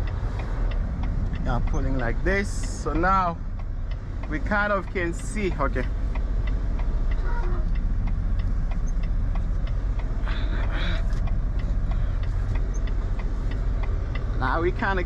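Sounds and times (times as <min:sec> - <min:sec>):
diesel truck engine rumble: 0:00.0 - 0:15.0
light regular ticking: 0:00.0 - 0:15.0.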